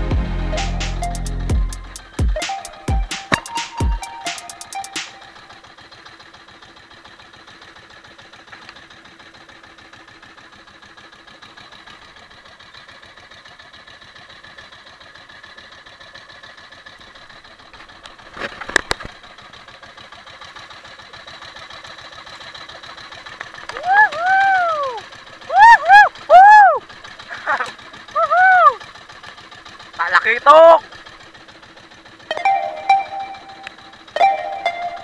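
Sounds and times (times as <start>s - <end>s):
boat engine idling: 0.0s - 35.0s.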